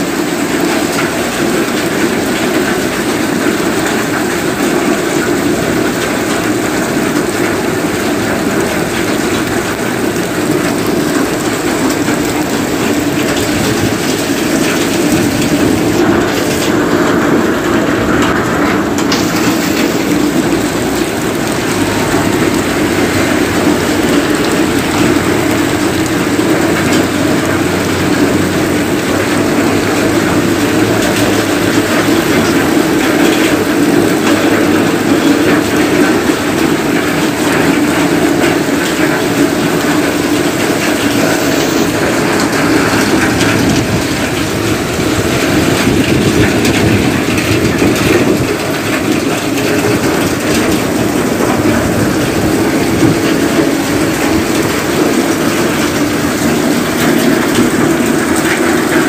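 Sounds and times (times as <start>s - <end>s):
heavy rain on wet street: 0.0s - 59.0s.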